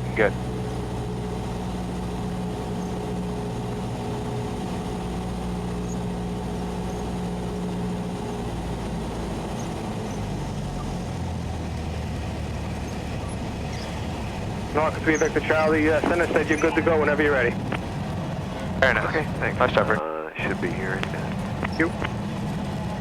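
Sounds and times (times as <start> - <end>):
aircraft engine and propeller: 0.0 - 23.0.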